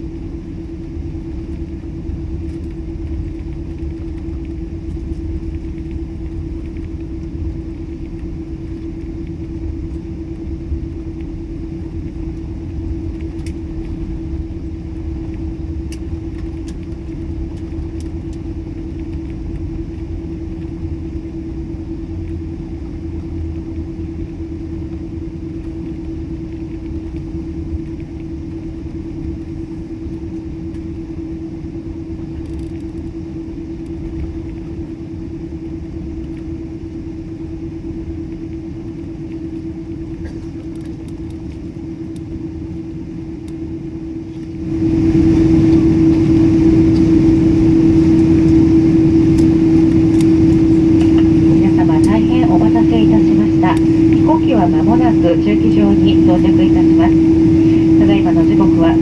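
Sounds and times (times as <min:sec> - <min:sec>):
airliner engine rumble: 0:00.0 - 0:59.0
constant hum: 0:00.0 - 0:59.0.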